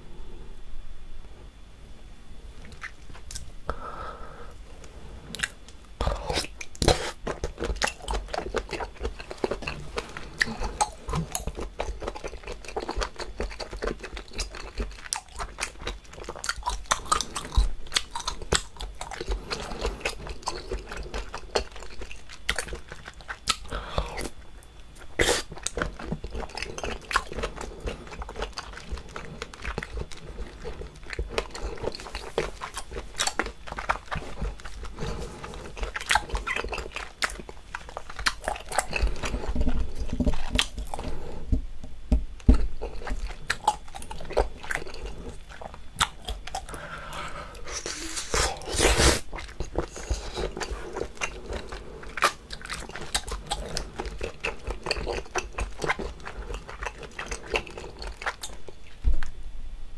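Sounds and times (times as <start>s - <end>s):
wet chewing and biting: 5.3s - 41.4s, 42.4s - 59.4s.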